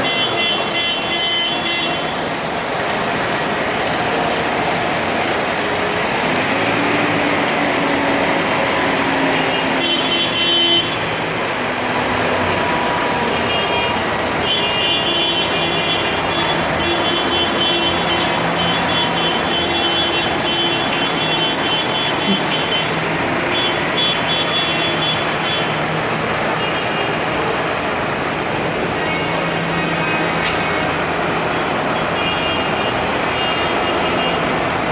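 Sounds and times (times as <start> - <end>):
tractor engines running: 0.0 - 34.9.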